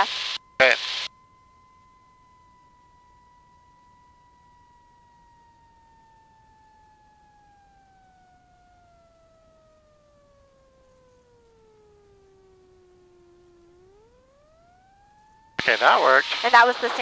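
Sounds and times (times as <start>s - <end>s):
alternator whine falling in pitch: 0.0s - 17.0s.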